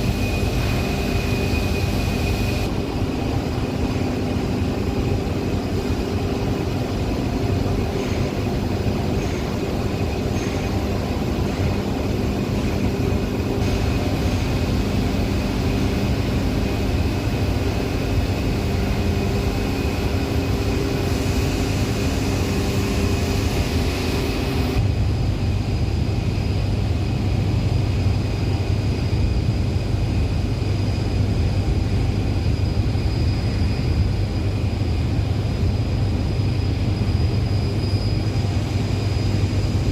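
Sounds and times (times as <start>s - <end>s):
faint high whine: 0.0s - 39.9s
heavy machinery humming: 0.0s - 39.9s.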